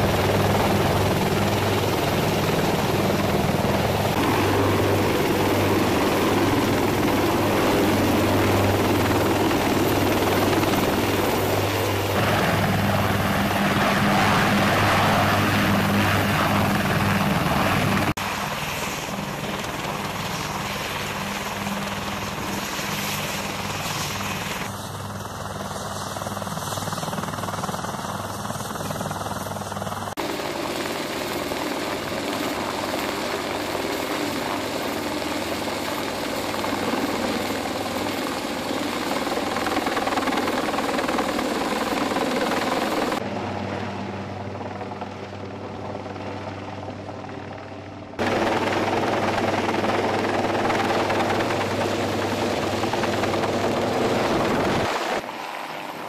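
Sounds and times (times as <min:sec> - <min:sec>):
helicopter rotor and turbine noise: 0:00.0 - 0:56.0.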